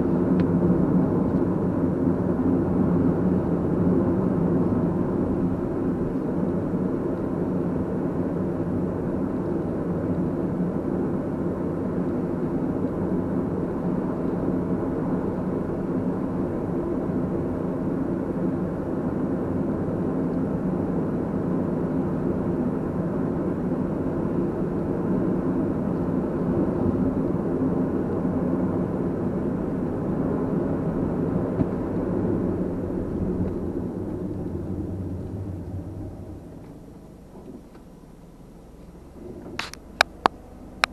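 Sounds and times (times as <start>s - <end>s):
car engine hum: 0.0s - 40.9s
road noise: 0.0s - 40.9s.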